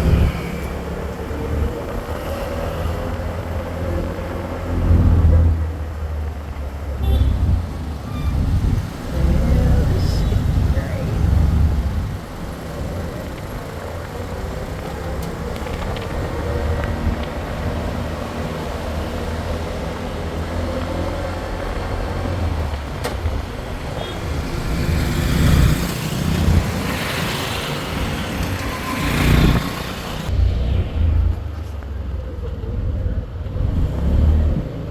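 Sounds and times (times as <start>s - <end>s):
road noise: 0.0s - 34.9s
vehicle engine rumble: 0.0s - 34.9s.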